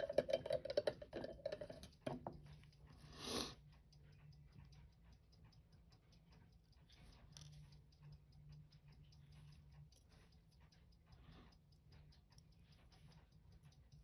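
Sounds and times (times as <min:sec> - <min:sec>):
metal tweezers clicking on watch parts: 0:00.0 - 0:03.2, 0:03.8 - 0:14.0.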